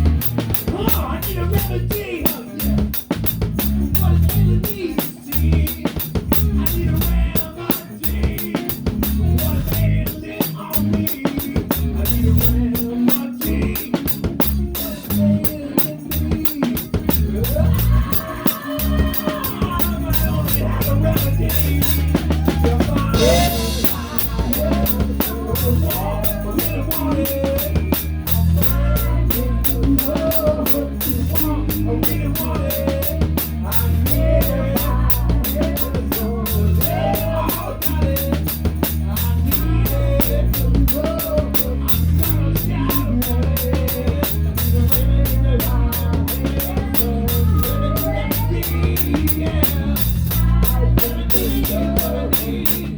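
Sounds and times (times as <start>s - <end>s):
bass guitar: 0.0s - 52.9s
bending lead guitar melody: 0.0s - 52.9s
drum kit beat: 0.0s - 52.9s.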